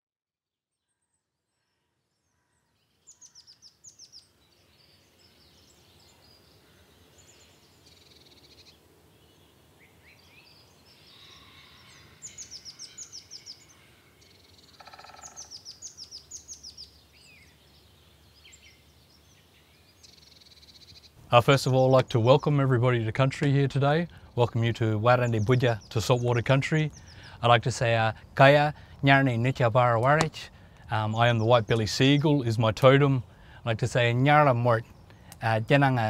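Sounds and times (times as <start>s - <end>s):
birds chirping and trilling: 0.8s - 36.0s
faint background hiss: 2.8s - 36.0s.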